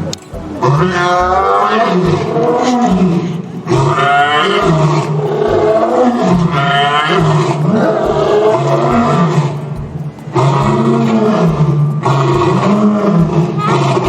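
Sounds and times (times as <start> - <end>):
big cat roaring and growling: 0.7 - 14.0.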